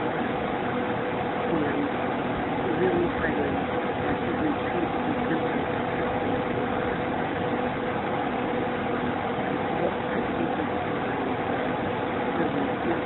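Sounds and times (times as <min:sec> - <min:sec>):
steady mid-pitched hum: 0:00.0 - 0:13.0.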